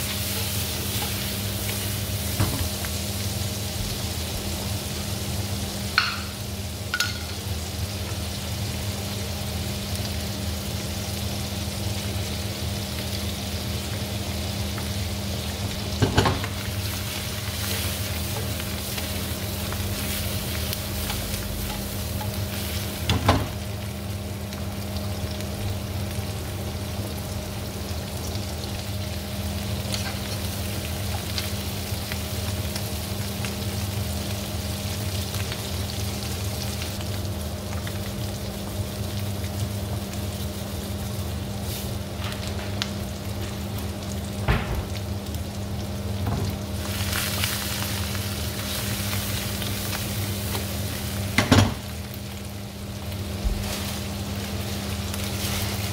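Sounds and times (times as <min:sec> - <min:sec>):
onions sizzling in oil: 0:00.0 - 0:55.9
steady low hum: 0:00.0 - 0:55.9.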